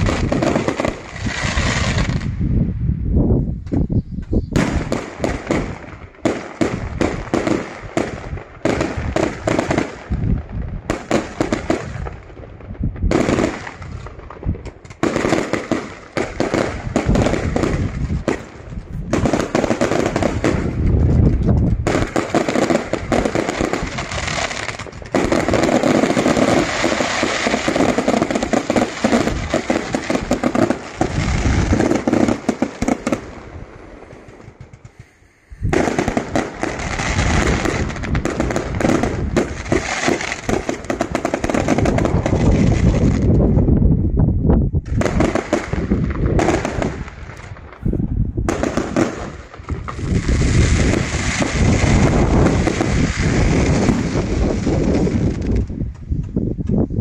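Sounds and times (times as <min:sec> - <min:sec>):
fireworks bangs: 0:00.0 - 0:02.7, 0:03.6 - 0:57.0
fireworks crackle: 0:00.0 - 0:02.7, 0:03.6 - 0:57.0.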